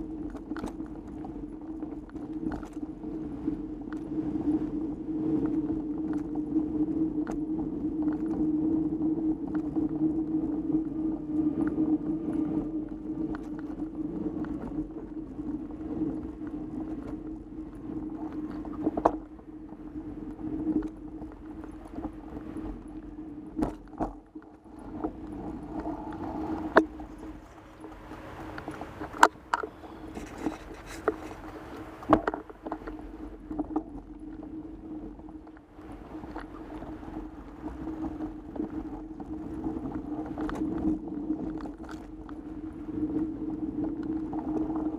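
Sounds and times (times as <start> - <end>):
bike tires rolling hum: 0.0 - 44.9.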